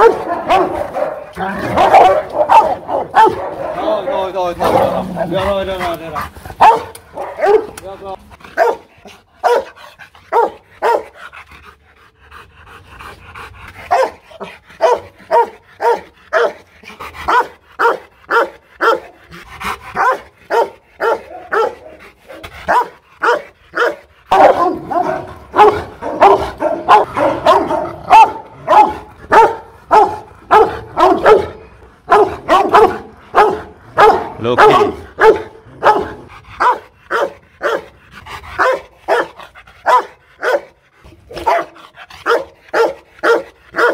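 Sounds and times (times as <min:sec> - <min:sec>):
dog barking aggressively: 0:00.0 - 0:11.4, 0:13.7 - 0:43.9.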